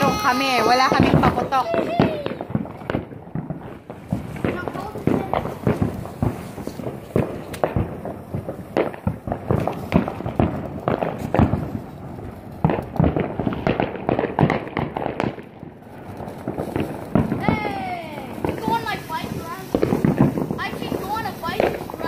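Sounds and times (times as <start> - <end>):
fireworks cracking and banging: 0.0 - 22.0.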